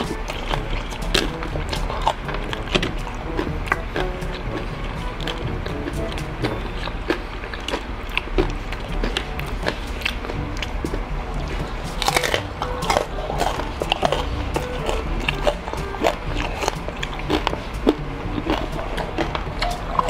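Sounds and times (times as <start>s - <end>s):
background music: 0.0s - 20.0s
crunching and chewing: 0.0s - 20.0s.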